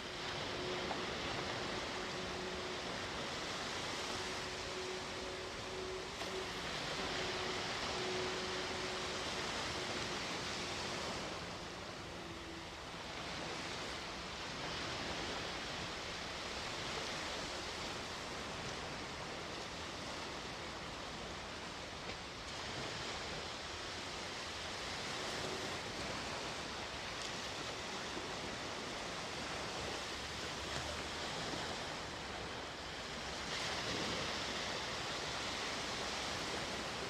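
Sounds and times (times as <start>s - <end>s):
sea waves washing on shore: 0.0s - 37.0s.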